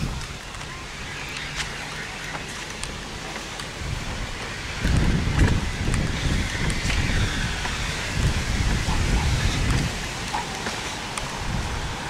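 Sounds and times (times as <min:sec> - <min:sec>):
wind buffeting microphone: 0:00.0 - 0:12.0
wind rustling trees: 0:00.0 - 0:12.0.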